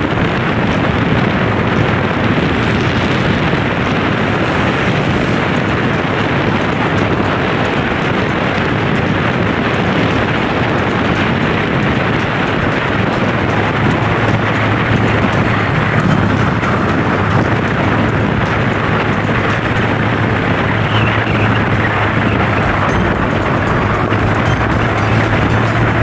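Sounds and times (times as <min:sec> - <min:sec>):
scooter engine humming: 0:00.0 - 0:26.0
wind rush on microphone: 0:00.0 - 0:26.0.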